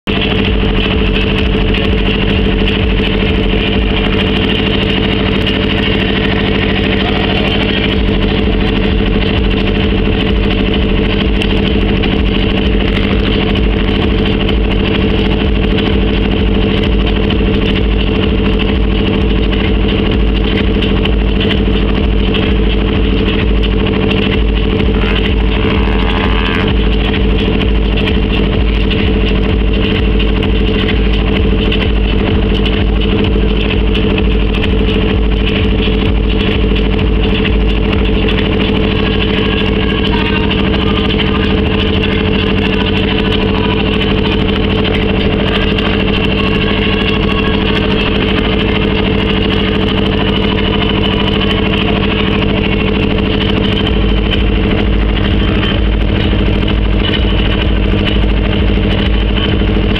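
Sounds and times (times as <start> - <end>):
steady engine drone: 0.0 - 59.9.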